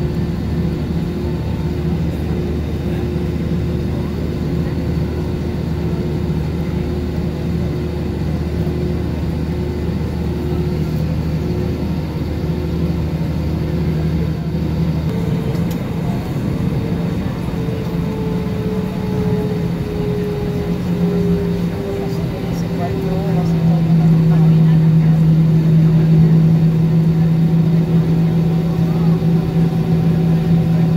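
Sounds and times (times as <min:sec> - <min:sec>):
aircraft engine hum in cabin: 0:00.0 - 0:30.9.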